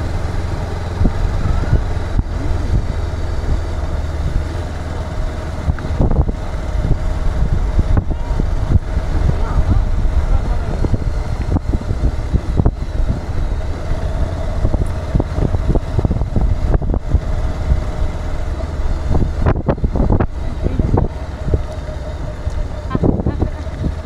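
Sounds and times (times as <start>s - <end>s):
motorcycle engine and road rumble: 0.0s - 24.0s
wind buffeting microphone: 0.0s - 24.0s.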